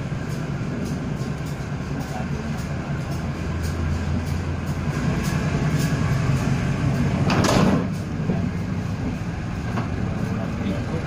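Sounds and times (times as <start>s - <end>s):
train rumbling with wheel clicks: 0.0s - 11.0s.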